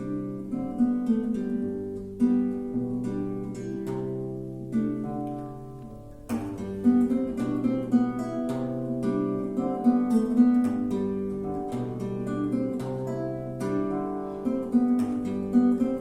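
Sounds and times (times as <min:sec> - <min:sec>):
plucked string instrument melody: 0:00.0 - 0:16.0.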